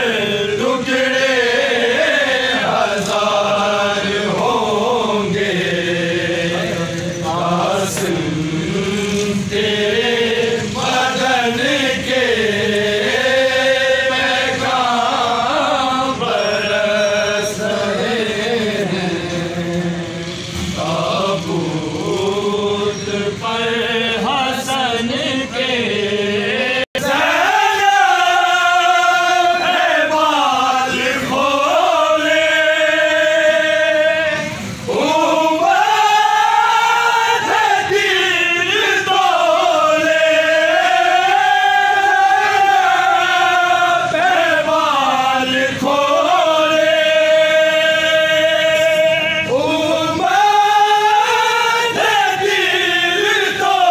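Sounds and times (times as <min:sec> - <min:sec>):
crowd of men chanting: 0:00.0 - 0:53.9.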